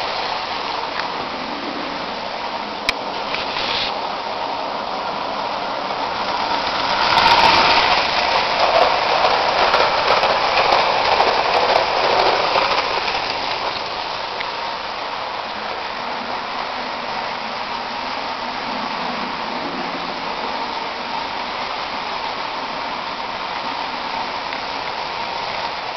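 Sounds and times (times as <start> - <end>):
model train wheels rumbling: 0.0 - 25.9.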